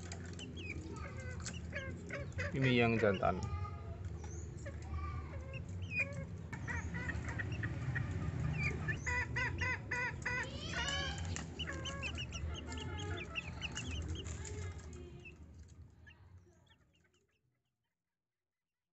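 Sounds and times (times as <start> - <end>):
chicks peeping and chirping: 0.0 - 17.5.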